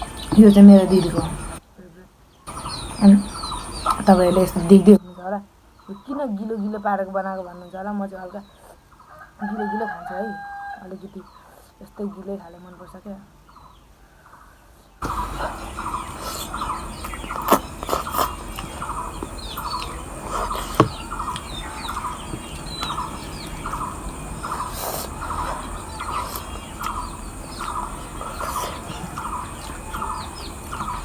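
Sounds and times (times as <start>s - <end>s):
birds calling and chirping: 0.0s - 1.6s, 2.3s - 31.0s.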